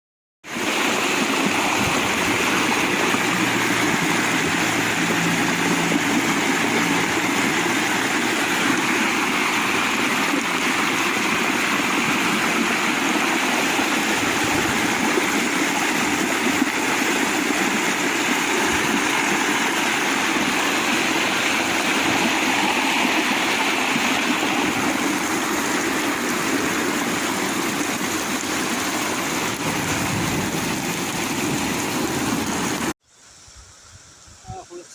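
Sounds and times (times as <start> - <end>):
heavy rain rushing: 0.5 - 33.0.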